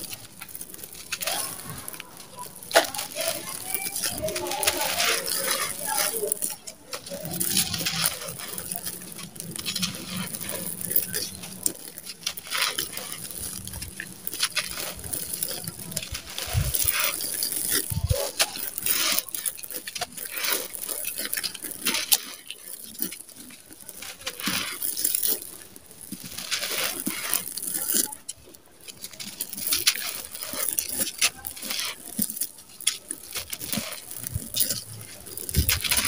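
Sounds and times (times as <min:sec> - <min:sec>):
grit trickling down: 0:00.0 - 0:36.0
gritty crunching by hand: 0:00.0 - 0:36.0.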